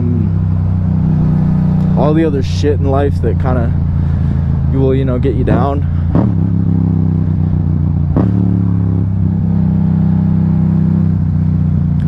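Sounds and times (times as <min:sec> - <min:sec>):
motorcycle engine downshifting: 0:00.0 - 0:12.0.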